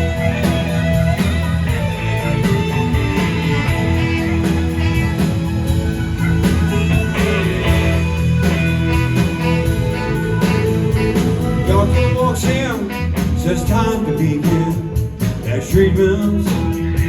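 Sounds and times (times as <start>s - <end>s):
bass and drums beat: 0.0s - 17.0s
electric guitar: 0.0s - 17.0s.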